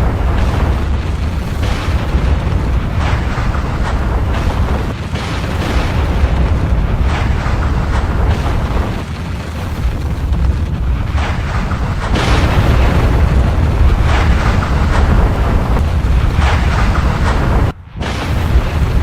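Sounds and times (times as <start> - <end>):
eruption bursts and crackling: 0.0 - 19.0
volcanic eruption rumbling: 0.0 - 19.0.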